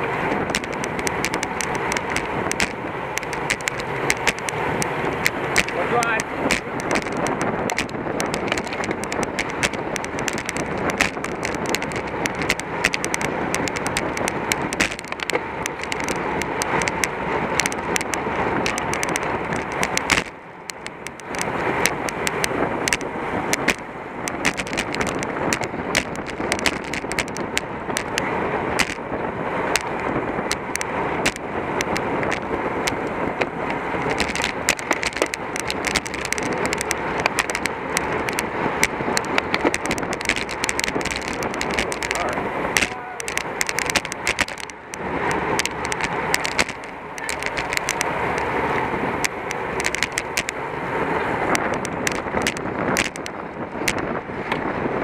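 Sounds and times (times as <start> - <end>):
bicycle road and drivetrain noise: 0.0 - 55.0
sharp clicks and rattles: 0.0 - 55.0
wind rushing over microphone: 0.0 - 55.0.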